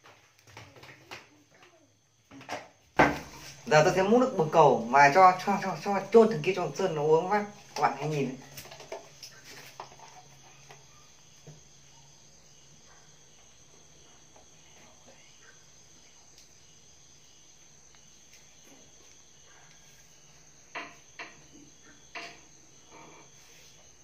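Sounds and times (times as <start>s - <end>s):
room hiss: 2.5s - 24.0s.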